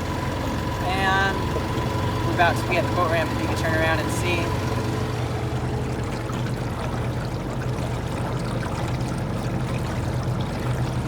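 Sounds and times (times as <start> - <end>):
outboard motor running: 0.0 - 11.0
water splashing against hull: 0.0 - 11.0.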